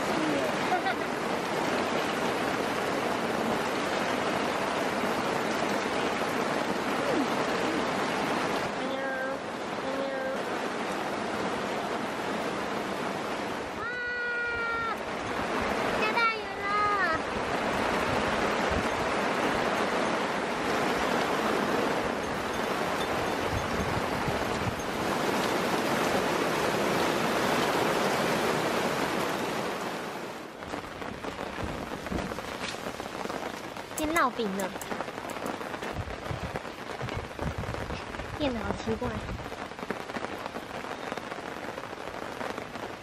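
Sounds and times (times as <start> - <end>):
heavy rain on a tarp: 0.0 - 43.0.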